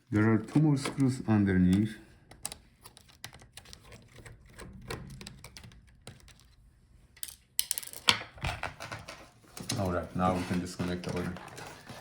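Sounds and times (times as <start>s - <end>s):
laptop parts being handled: 0.2s - 12.0s.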